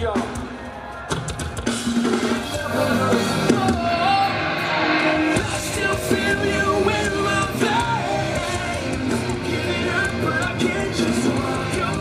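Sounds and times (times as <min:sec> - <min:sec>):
rock music over loudspeakers: 0:00.0 - 0:12.0.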